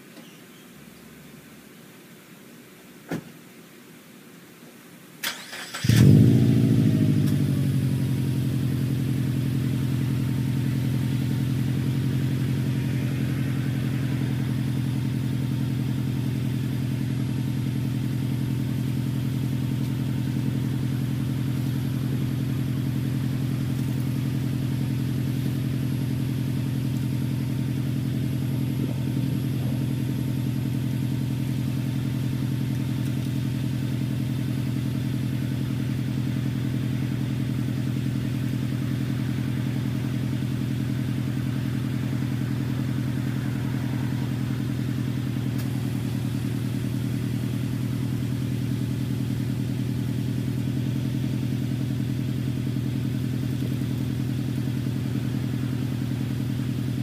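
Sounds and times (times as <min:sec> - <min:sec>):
car engine starting and idling: 0:05.2 - 0:57.0.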